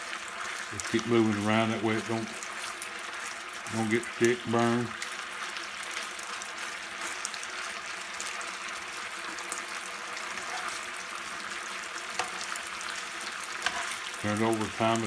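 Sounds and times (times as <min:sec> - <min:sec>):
marinade sizzling in a skillet: 0:00.0 - 0:15.0.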